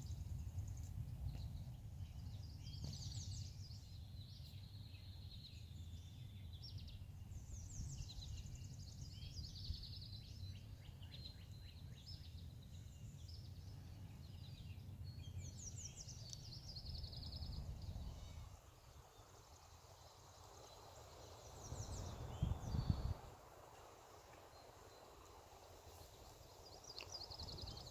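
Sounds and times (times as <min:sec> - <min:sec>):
songbirds singing: 0:00.0 - 0:27.9.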